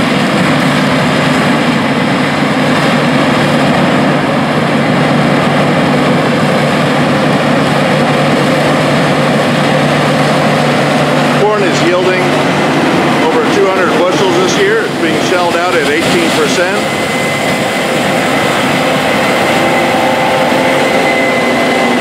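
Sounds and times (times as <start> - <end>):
diesel harvesting machinery running: 0.0 - 22.0.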